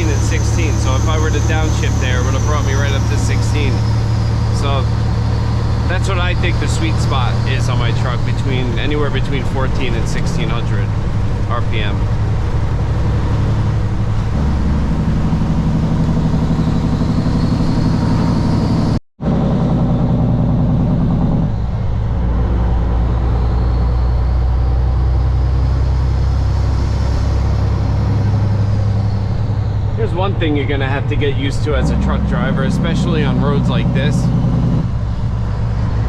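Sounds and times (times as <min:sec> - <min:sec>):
truck diesel engine pulling uphill: 0:00.0 - 0:36.0.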